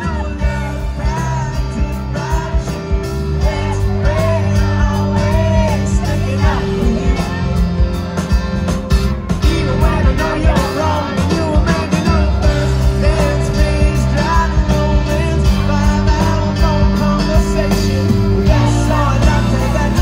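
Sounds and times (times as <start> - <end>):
man singing lead vocals: 0.0 - 8.4, 9.2 - 20.0
live rock band playing: 0.0 - 20.0.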